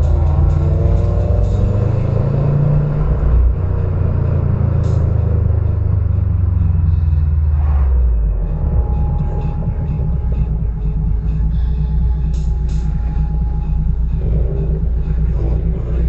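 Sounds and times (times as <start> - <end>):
car engine and exhaust rumbling: 0.0 - 16.0.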